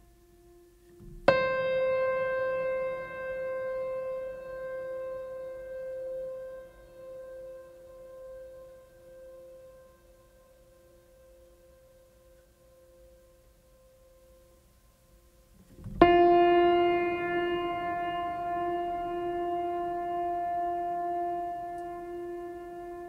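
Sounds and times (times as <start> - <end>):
ambient music chord: 0.0 - 14.6, 16.0 - 23.0.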